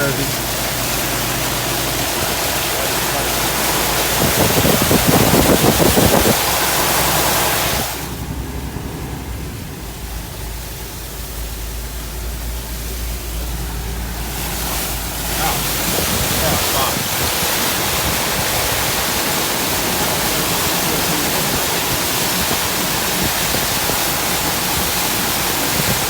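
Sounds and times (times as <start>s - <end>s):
truck rumbling: 0.0s - 26.0s
water spray hissing from tyres: 0.0s - 26.0s.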